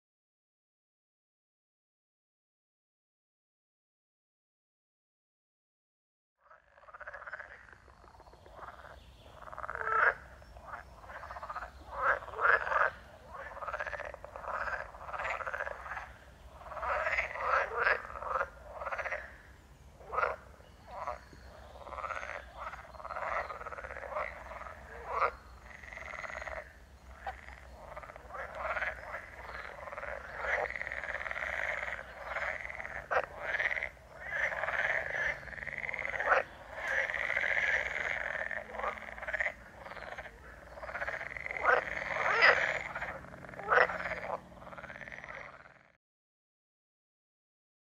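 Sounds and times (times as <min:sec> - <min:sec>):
chorus of frogs croaking: 0:06.4 - 0:46.0.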